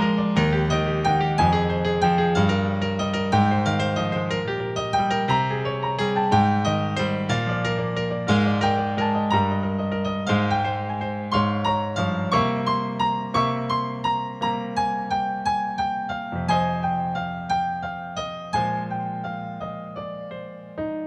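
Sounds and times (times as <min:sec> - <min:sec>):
slow gentle piano melody: 0:00.0 - 0:21.0.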